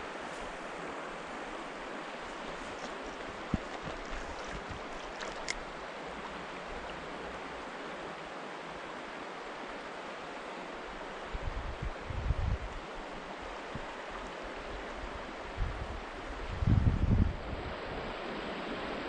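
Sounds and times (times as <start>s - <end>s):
river water rushing over rocks: 0.0s - 12.1s, 12.7s - 16.5s.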